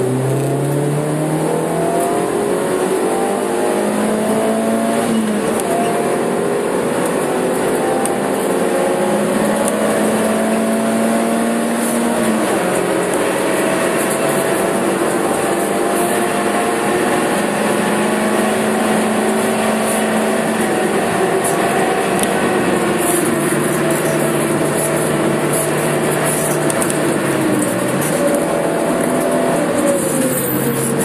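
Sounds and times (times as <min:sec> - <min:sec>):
car engine running hard: 0:00.0 - 0:31.0
tyre and road noise: 0:00.0 - 0:31.0.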